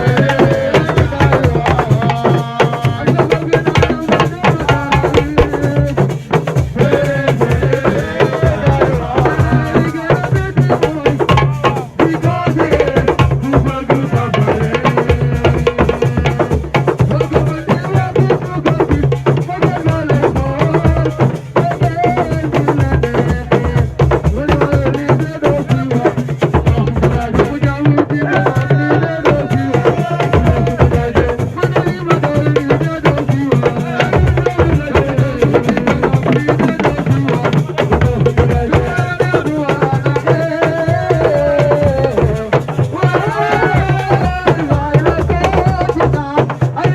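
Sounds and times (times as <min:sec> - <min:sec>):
person singing: 0:00.0 - 0:06.1, 0:06.7 - 0:46.9
fast dense drumming: 0:00.0 - 0:46.9.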